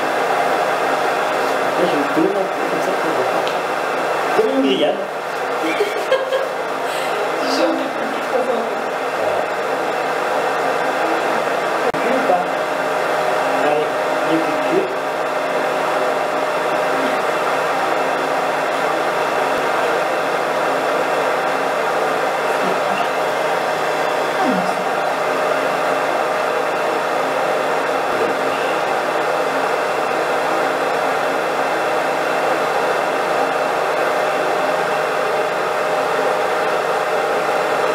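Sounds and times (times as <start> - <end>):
hair dryer running: 0.0 - 37.9.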